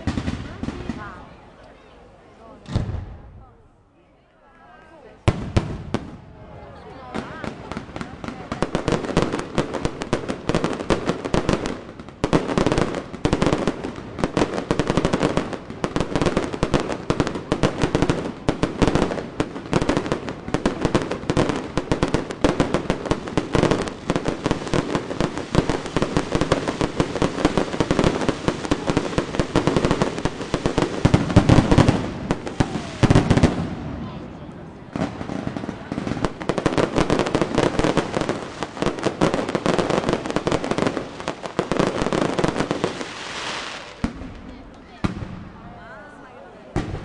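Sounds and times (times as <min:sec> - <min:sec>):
fireworks bangs and pops: 0:00.0 - 0:01.7, 0:02.6 - 0:03.4, 0:05.2 - 0:06.3, 0:07.0 - 0:45.7, 0:46.7 - 0:47.0.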